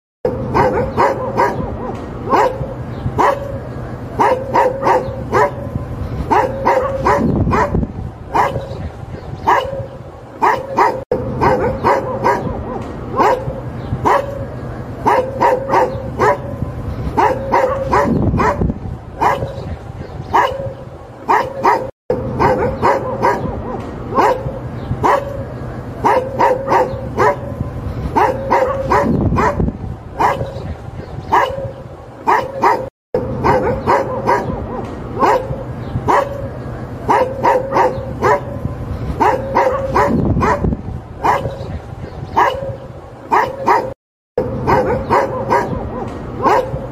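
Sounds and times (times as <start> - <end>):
dog barking: 0.3 - 25.4, 26.0 - 36.5, 37.1 - 38.6, 39.2 - 46.9.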